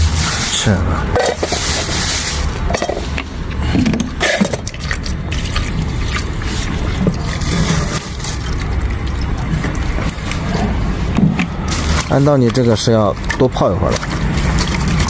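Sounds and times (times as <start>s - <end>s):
containers clicking and scraping: 0.0s - 15.0s.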